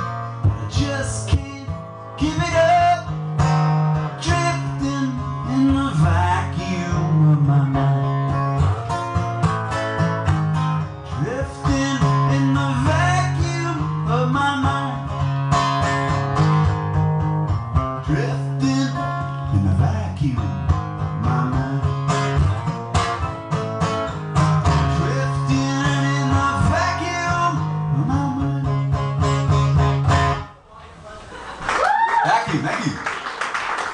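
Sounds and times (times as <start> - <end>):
acoustic guitar strumming: 0.0 - 30.6.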